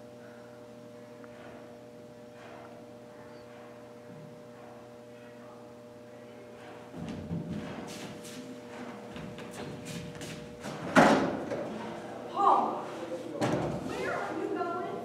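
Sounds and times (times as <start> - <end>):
mains hum: 0.0 - 15.0.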